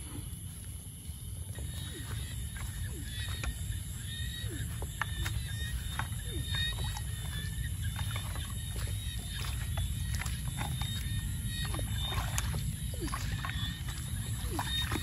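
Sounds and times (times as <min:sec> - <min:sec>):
steady low rumble: 0:00.0 - 0:15.0
water splashing and dripping: 0:01.5 - 0:15.0.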